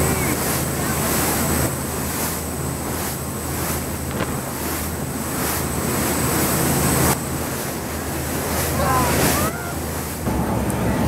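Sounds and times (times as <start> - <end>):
ferry engine drone: 0.0 - 11.0
water rushing along hull: 0.0 - 11.0
wind on microphone: 0.0 - 11.0.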